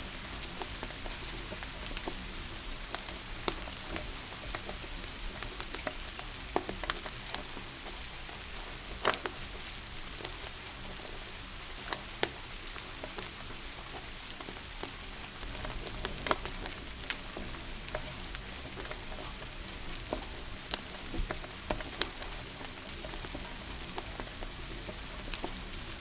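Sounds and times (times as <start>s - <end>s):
fire crackling and popping: 0.0s - 26.0s
rain hiss: 0.0s - 26.0s.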